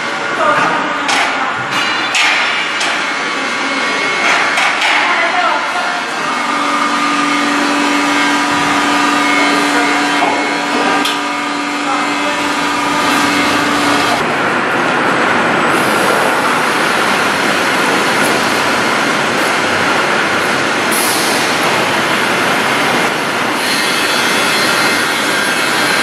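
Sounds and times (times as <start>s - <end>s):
factory noise: 0.0s - 26.0s
rushing machinery noise: 0.0s - 26.0s.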